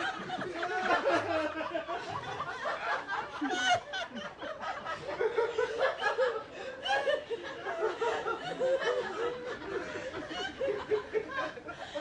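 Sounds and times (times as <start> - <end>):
group of people laughing: 0.0 - 12.0.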